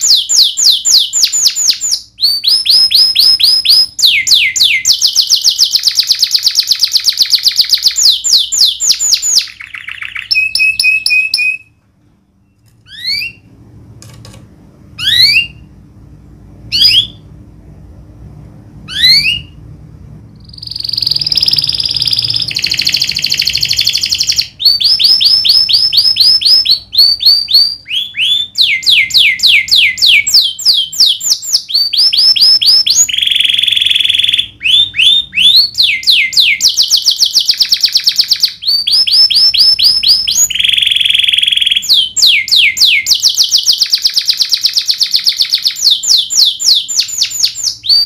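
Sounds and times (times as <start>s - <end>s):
canary singing: 0.0s - 11.8s, 12.4s - 13.6s, 14.9s - 15.9s, 16.6s - 17.4s, 18.8s - 48.0s.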